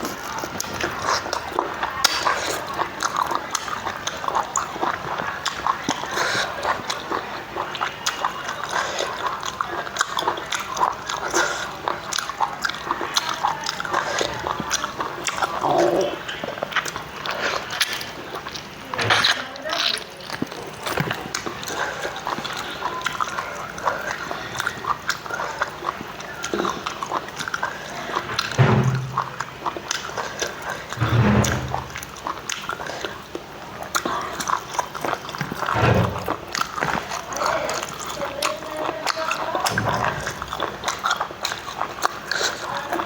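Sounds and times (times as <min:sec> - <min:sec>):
person chewing food: 0:00.0 - 0:18.9, 0:19.6 - 0:43.0.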